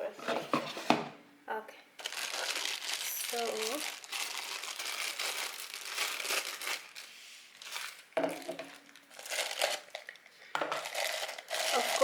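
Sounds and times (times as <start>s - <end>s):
packaging crinkling and rustling: 2.0s - 12.0s.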